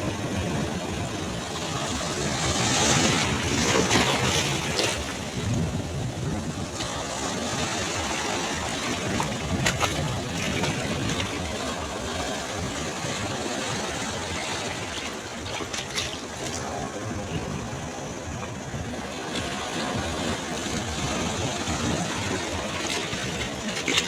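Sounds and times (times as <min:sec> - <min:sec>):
surf rushing on beach: 0:00.0 - 0:24.0.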